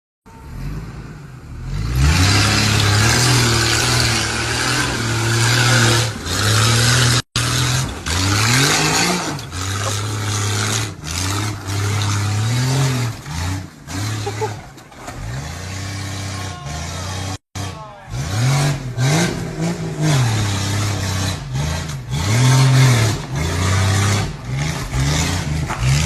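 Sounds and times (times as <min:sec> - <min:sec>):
engine revving: 0:00.3 - 0:26.0.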